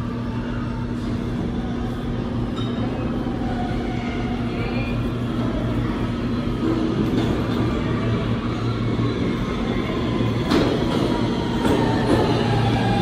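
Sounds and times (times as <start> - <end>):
subway train motor hum: 0.0 - 13.0.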